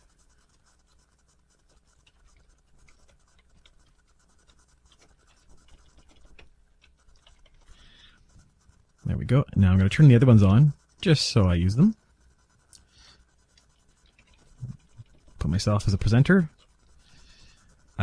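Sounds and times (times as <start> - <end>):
keyboard typing: 0.0 - 9.1, 9.9 - 18.0
low background hum: 0.0 - 18.0.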